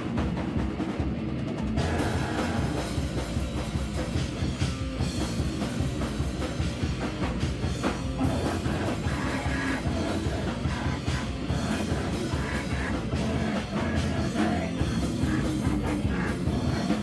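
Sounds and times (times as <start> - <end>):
distorted guitar: 0.0 - 17.0
live rock band: 0.0 - 17.0
pounding drum kit: 0.0 - 17.0.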